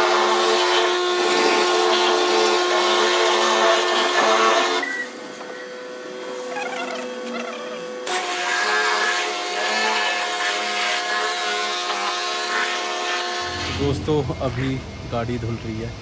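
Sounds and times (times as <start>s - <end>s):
pressure washer pump whine: 0.0s - 8.1s, 9.1s - 16.0s.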